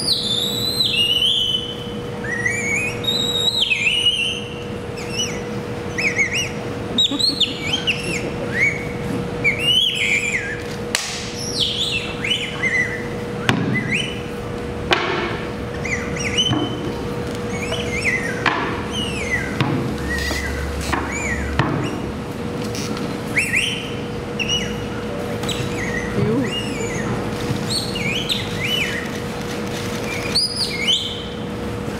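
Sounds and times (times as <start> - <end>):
bird-like chirping and whistles: 0.0 - 14.4, 15.7 - 16.9, 17.5 - 22.1, 23.3 - 29.2, 30.0 - 31.4
steady hum: 0.0 - 31.9.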